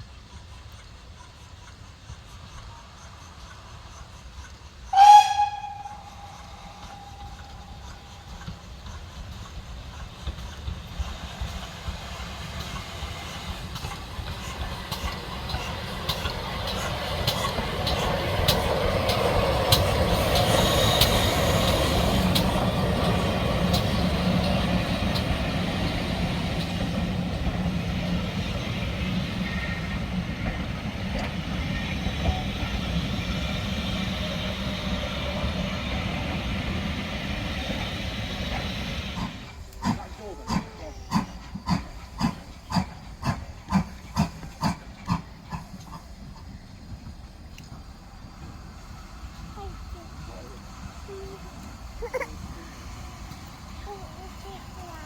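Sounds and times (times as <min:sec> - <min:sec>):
steam train rumbling past: 0:00.0 - 0:55.0
wheels clicking over rail joints: 0:00.2 - 0:37.1, 0:37.8 - 0:55.0.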